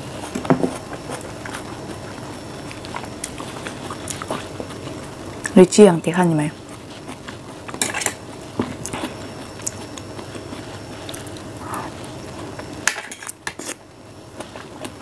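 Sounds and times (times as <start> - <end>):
person chewing soft fruit: 0.0 - 5.6, 6.6 - 12.7, 13.3 - 15.0.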